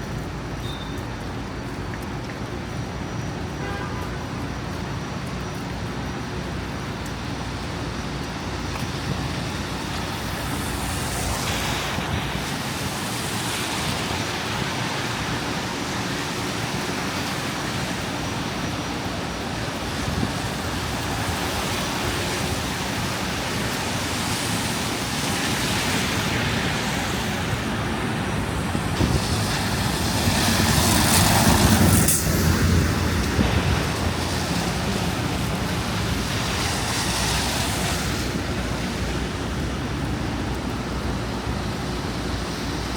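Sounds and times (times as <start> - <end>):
vehicles passing: 0.0 - 42.9.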